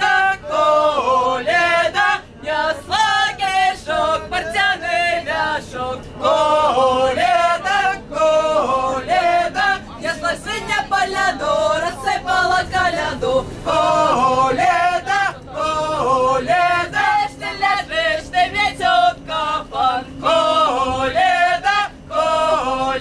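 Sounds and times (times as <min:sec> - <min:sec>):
mixed choir singing: 0:00.0 - 0:23.0.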